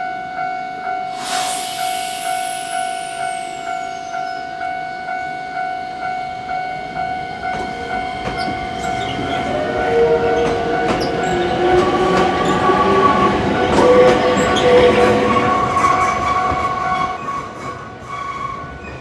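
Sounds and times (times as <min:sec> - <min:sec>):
approaching train: 0:00.8 - 0:19.0
train wheels squealing: 0:01.1 - 0:05.6, 0:07.5 - 0:19.0.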